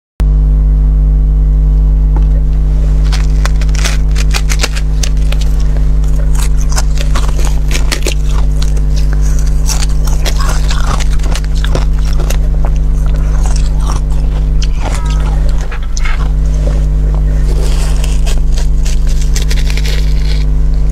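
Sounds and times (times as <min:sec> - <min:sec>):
loud low hum: 0:00.2 - 0:20.9
fingernails scratching ice: 0:02.8 - 0:20.9.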